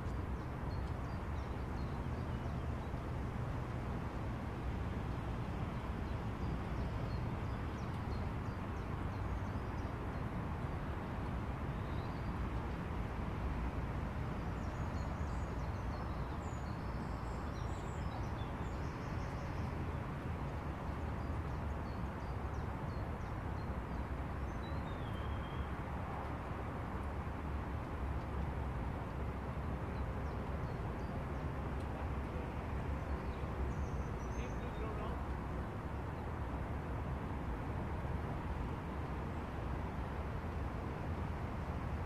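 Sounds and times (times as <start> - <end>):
songbird chirps: 0.0 - 42.0.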